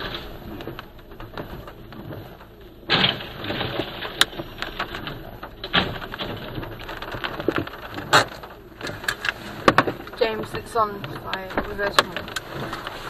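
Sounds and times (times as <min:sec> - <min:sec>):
sharp knocks: 0:00.0 - 0:13.0
van crashing onto its side: 0:00.0 - 0:13.0.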